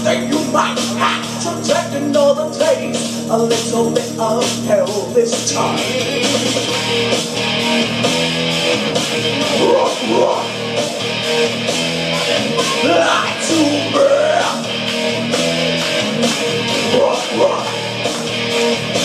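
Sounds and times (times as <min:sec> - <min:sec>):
rock guitar chords: 0:00.0 - 0:19.0
drum beat: 0:00.1 - 0:19.0.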